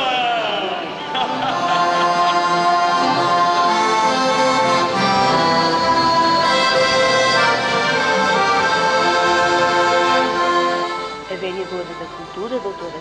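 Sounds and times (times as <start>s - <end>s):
live band playing traditional music: 0.0s - 13.0s.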